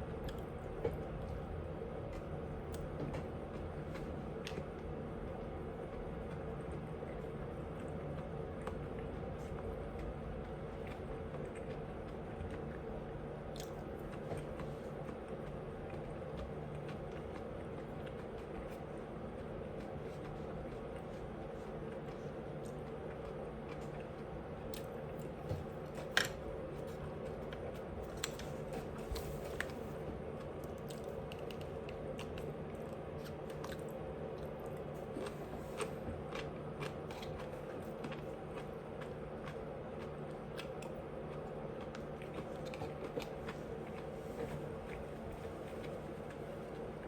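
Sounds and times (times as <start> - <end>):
person chewing food: 0.0 - 47.0
steady low hum: 0.0 - 47.0.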